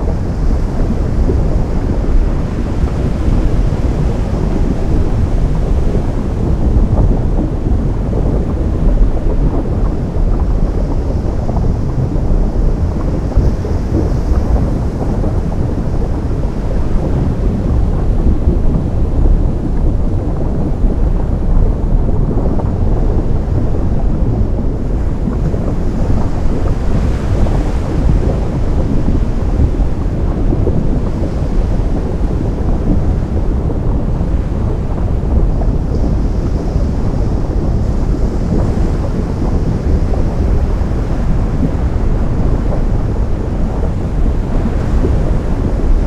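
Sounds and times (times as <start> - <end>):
ocean surf rumbling: 0.0 - 46.0
wind buffeting microphone: 0.0 - 46.0.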